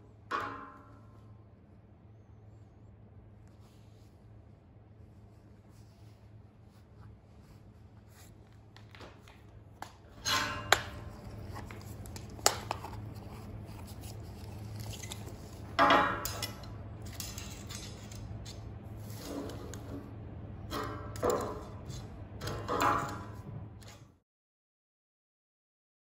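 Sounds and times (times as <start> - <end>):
low workshop hum: 0.0 - 24.2.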